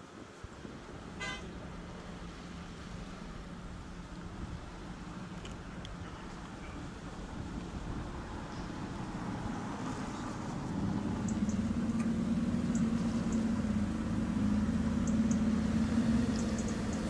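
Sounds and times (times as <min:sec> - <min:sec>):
car engine running at low speed: 0:01.2 - 0:17.0.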